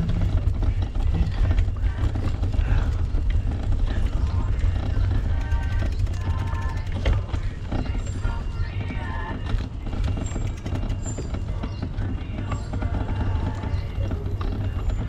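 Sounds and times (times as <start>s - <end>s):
bicycle rattling over cobblestones: 0.0s - 15.0s.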